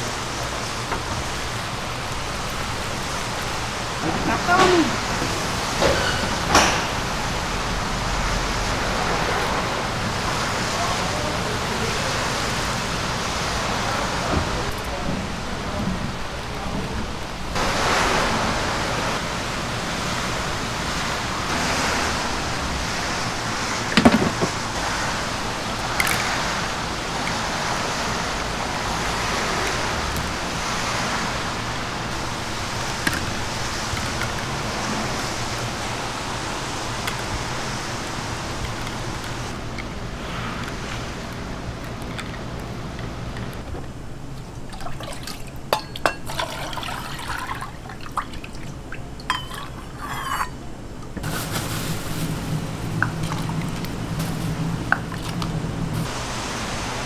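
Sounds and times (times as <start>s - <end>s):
street food stall hissing: 0.0s - 57.0s.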